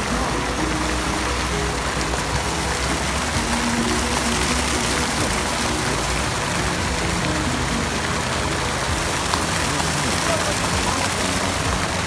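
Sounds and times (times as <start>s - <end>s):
background music: 0.0s - 12.0s
fountain water splashing into pool: 0.0s - 12.0s.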